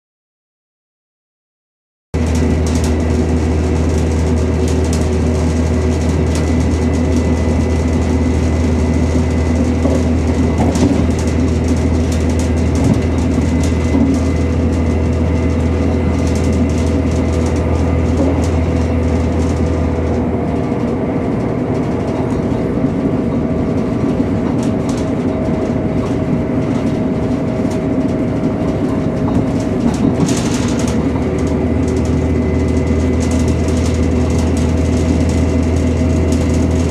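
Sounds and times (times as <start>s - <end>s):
diesel engine drone: 2.2s - 36.9s
train wheels on rail: 2.2s - 36.9s.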